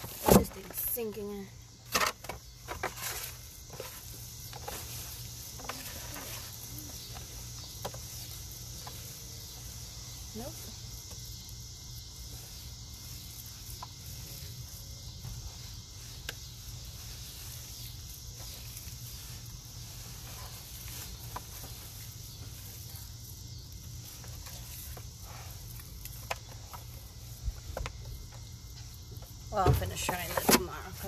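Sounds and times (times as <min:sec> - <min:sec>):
outdoor hiss and rumble: 0:00.0 - 0:31.0.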